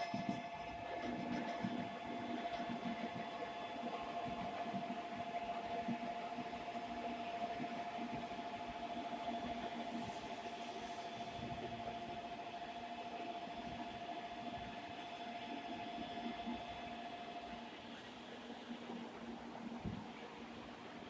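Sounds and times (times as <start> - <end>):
station platform hum and hiss: 0.0 - 21.0.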